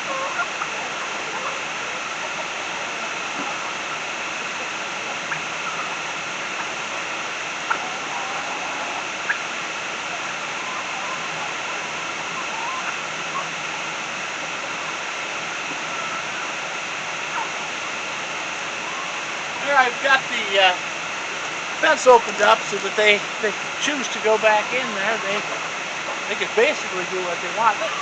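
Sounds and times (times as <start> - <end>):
rushing water noise: 0.0 - 28.0.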